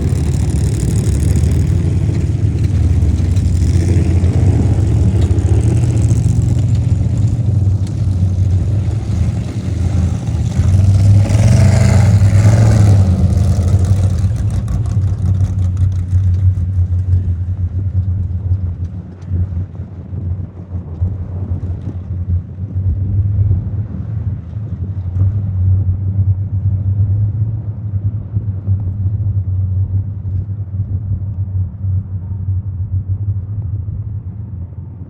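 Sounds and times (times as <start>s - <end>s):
race vehicle engines running: 0.0s - 35.0s.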